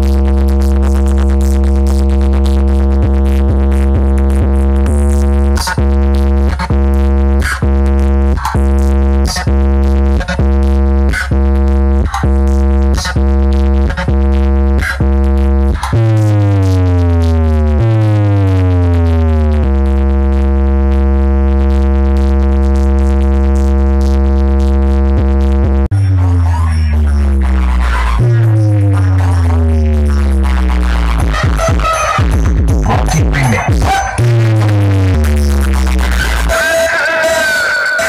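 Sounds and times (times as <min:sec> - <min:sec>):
deep bass drone: 0:00.0 - 0:36.5
long held bass tone: 0:00.0 - 0:36.8
sharp electronic beat: 0:00.0 - 0:38.0.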